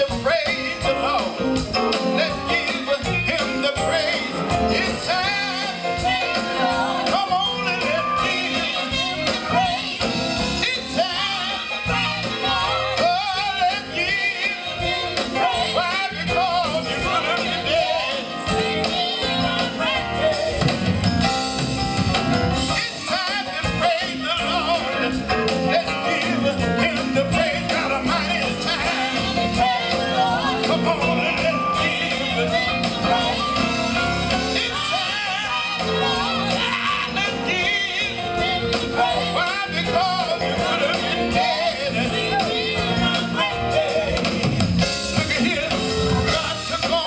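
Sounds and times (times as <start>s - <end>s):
drums keeping a beat: 0.0s - 47.0s
gospel group singing: 0.0s - 47.0s.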